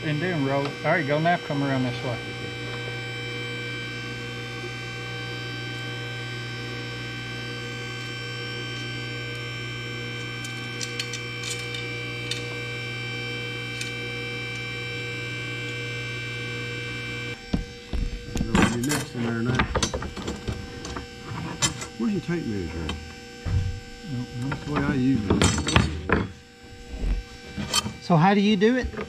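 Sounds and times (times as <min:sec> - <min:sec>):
pump motor humming: 0:00.0 - 0:29.0.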